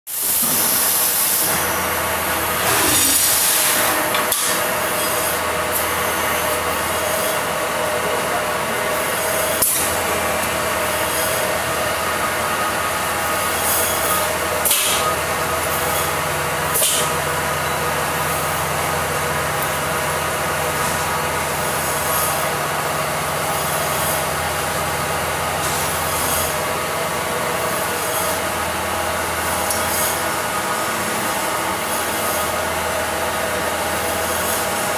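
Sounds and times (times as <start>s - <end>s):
machine drone with low hum: 0.2s - 34.9s.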